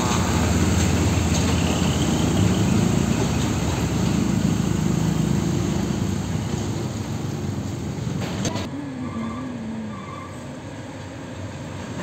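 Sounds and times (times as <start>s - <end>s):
heavy diesel trucks driving past: 0.0s - 12.0s.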